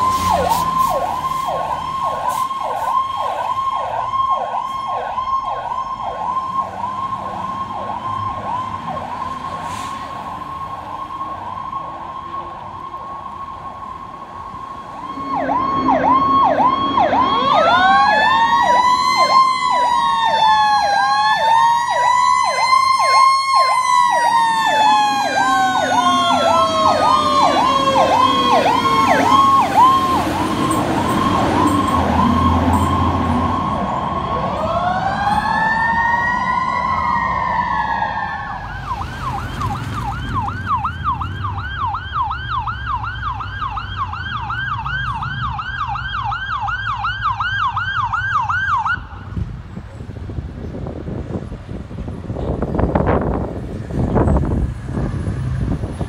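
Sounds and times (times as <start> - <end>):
siren yelp: 0.0 - 49.3
siren wail: 0.0 - 49.4.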